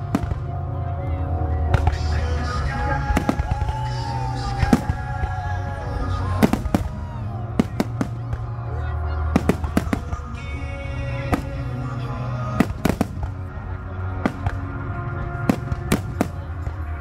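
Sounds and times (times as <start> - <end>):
fireworks bangs: 0.0 - 0.6, 1.7 - 8.7, 9.3 - 11.8, 12.5 - 13.5, 14.2 - 17.0
music playing: 0.0 - 17.0.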